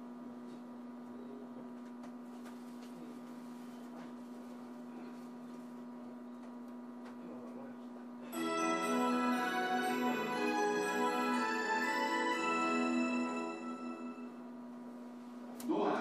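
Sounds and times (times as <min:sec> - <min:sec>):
electrical equipment hum: 0:00.0 - 0:16.0.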